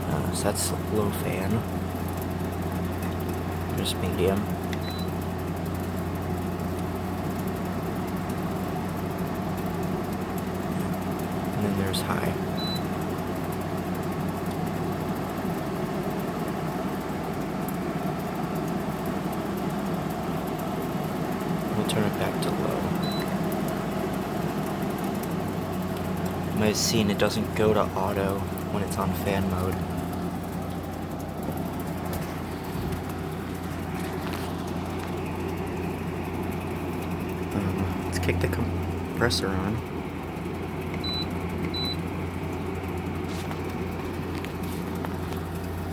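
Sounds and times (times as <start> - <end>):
air conditioner fan running: 0.0 - 45.9.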